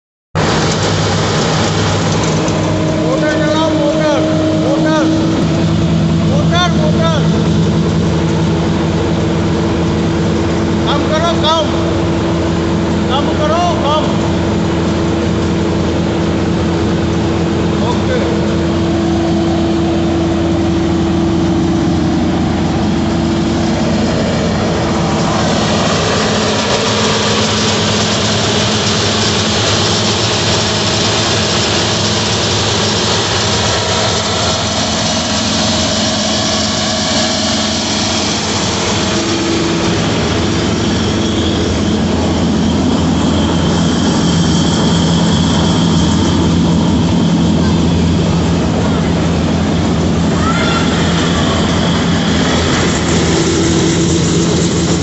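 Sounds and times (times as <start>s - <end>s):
engine drone: 0.4s - 55.0s
threshing drum and belts turning: 0.4s - 55.0s.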